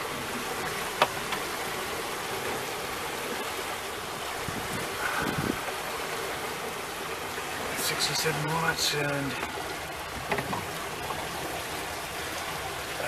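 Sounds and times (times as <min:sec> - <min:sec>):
water rushing along hulls: 0:00.0 - 0:13.0.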